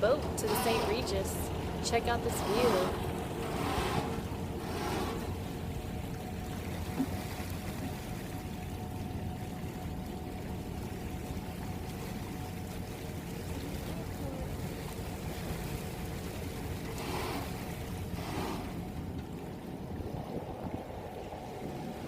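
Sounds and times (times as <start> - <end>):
motorboat engine rumble: 0.0 - 22.0
water rushing past hull: 0.0 - 22.0
wind: 0.0 - 22.0.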